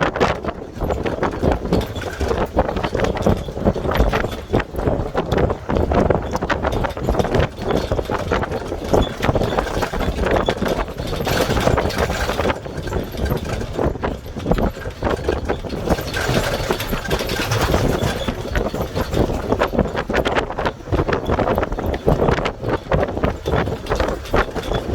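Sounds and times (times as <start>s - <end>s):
knocks and rattles: 0.0s - 24.9s
road and engine noise: 0.0s - 24.9s.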